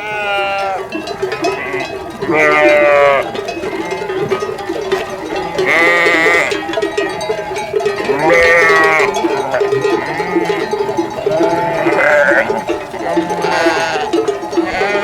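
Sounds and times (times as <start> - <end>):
other sheep calls: 0.0 - 15.0
sheep bleating: 0.0 - 15.0.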